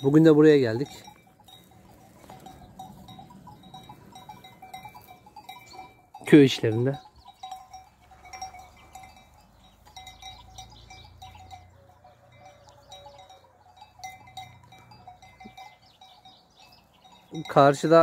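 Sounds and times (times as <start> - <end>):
sheep bells clinking: 0.0 - 18.0.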